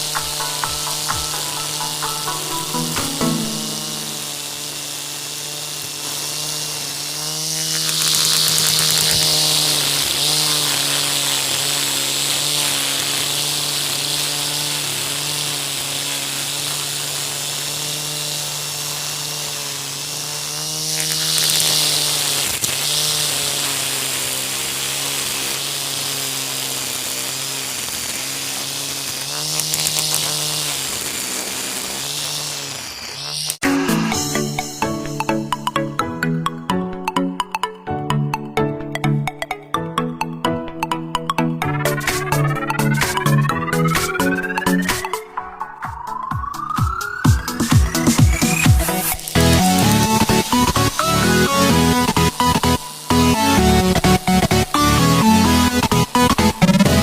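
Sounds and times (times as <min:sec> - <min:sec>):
hissing bursts: 0:00.0 - 0:36.0, 0:41.6 - 0:57.0
electric grinder motor running: 0:00.0 - 0:57.0.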